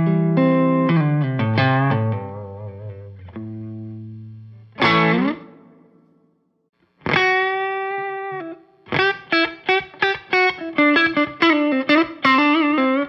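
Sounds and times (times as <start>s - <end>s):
overdriven electric guitar blues notes: 0.0s - 6.1s, 7.0s - 13.0s.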